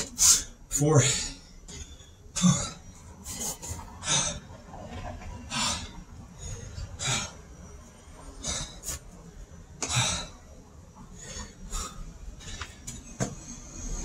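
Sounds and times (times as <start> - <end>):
man breathing hard: 0.0 - 4.8, 5.4 - 14.0.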